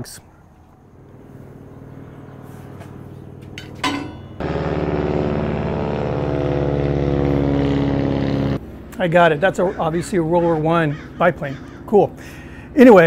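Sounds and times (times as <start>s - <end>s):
propeller plane engine droning: 0.5s - 13.0s.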